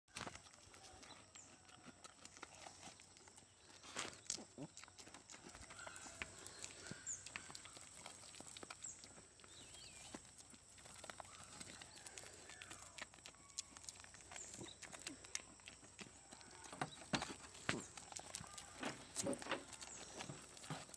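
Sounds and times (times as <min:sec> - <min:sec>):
goat eating fruit: 0:00.1 - 0:20.9.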